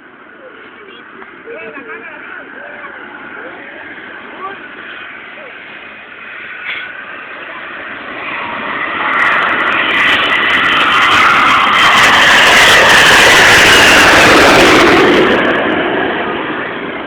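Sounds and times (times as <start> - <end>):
airplane passing close by: 0.0 - 17.0
engine whine falling in pitch: 1.7 - 17.0.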